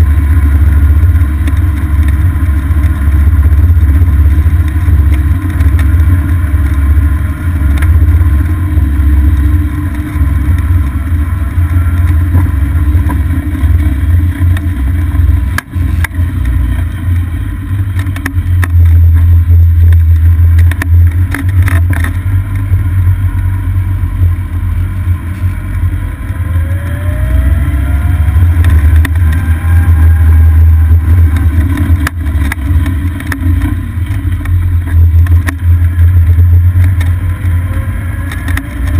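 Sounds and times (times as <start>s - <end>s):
faint rising whine: 0.0s - 38.9s
golf cart running: 0.0s - 38.9s.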